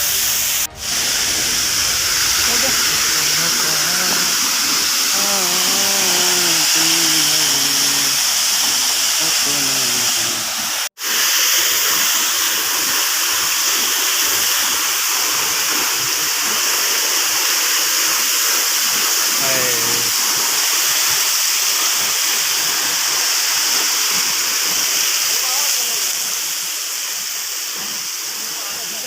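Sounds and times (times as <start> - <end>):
waterfall roaring: 0.0 - 26.3.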